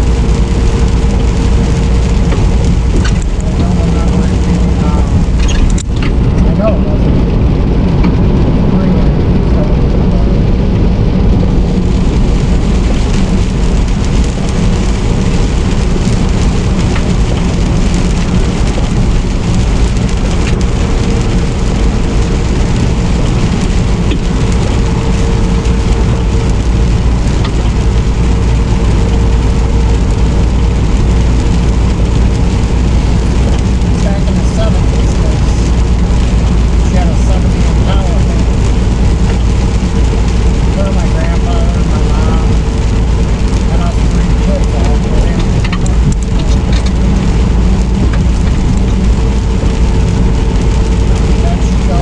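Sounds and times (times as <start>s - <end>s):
rain: 0.0s - 52.0s
road noise: 0.0s - 52.0s
truck engine drone: 0.0s - 52.0s.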